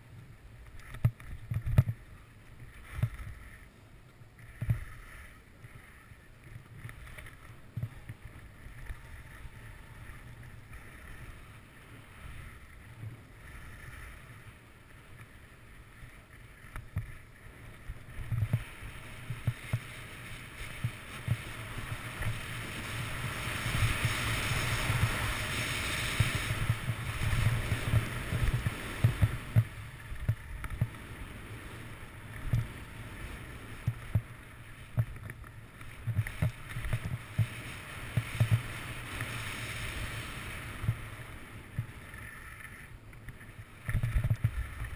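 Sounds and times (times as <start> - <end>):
skis scraping over snow: 0.0 - 44.9
wind rumbling on microphone: 0.0 - 44.9.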